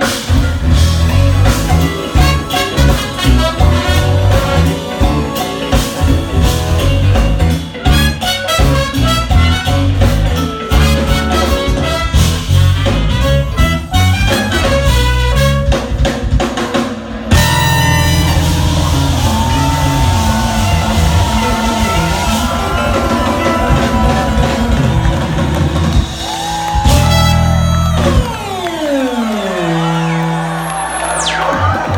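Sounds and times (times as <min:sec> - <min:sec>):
jazz fusion band playing: 0:00.0 - 0:28.9.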